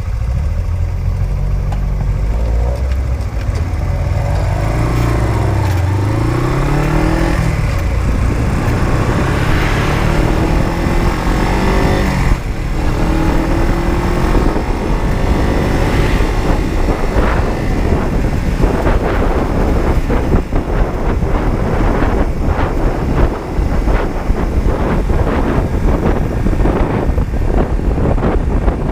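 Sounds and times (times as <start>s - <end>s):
motorcycle engine accelerating: 0.0s - 28.9s
wind buffeting on microphone: 3.4s - 28.9s.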